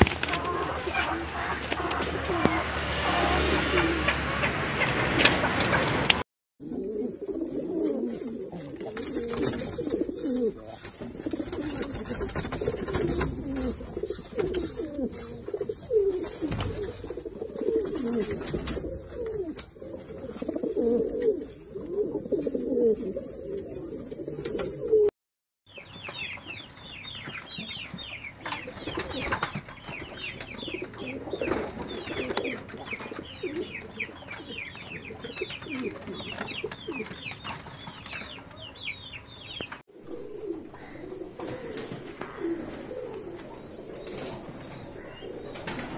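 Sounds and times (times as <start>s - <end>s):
pigeons cooing: 0.0s - 25.1s, 25.7s - 45.9s.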